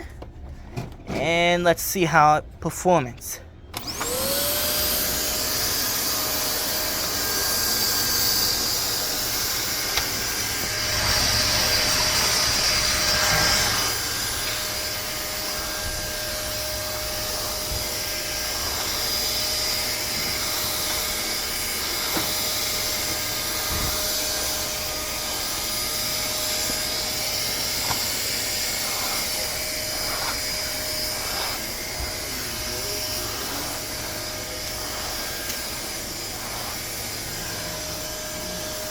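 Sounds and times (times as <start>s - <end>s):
vacuum cleaner running: 3.7s - 38.9s.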